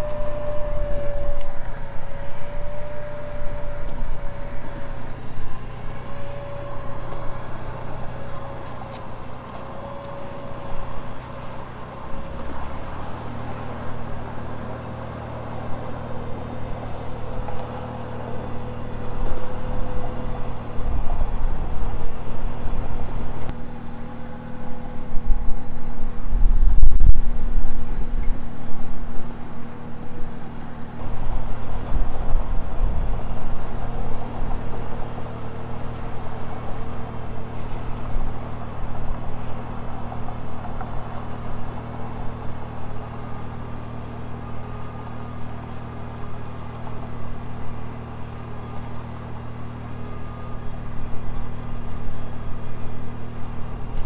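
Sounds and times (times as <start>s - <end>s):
electric winch motor whining: 0.0s - 25.7s, 31.0s - 54.0s
low rumble: 0.0s - 43.4s
truck engine humming: 0.0s - 54.0s.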